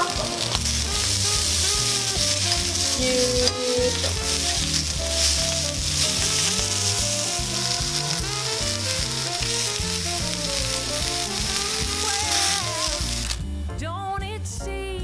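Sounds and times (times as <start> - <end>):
food sizzling in a frying pan: 0.0 - 13.4
background music: 0.0 - 15.0.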